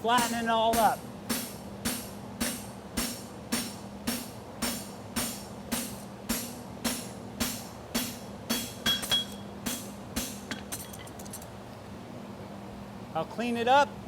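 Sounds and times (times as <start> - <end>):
hammer striking metal on anvil: 0.0 - 11.4.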